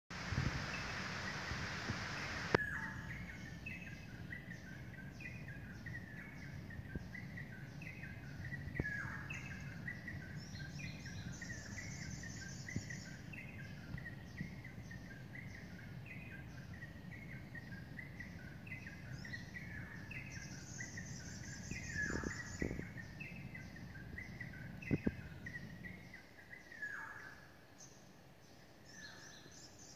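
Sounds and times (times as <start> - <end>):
low background hum: 0.2 - 29.9
bird chirping: 0.6 - 29.9.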